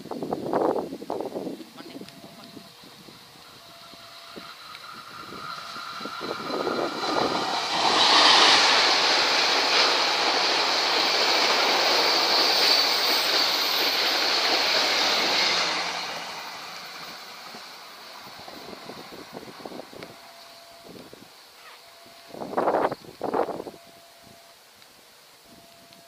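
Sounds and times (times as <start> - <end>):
train passing close by: 0.0 - 26.0.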